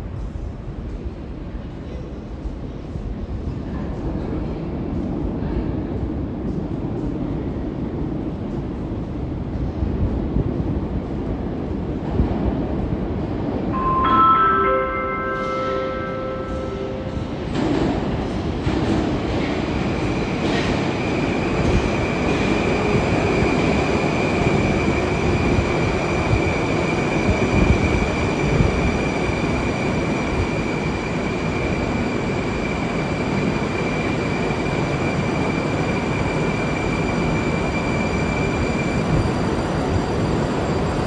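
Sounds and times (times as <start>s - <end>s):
train wheels rumbling on rail: 0.0s - 13.7s, 15.4s - 41.0s.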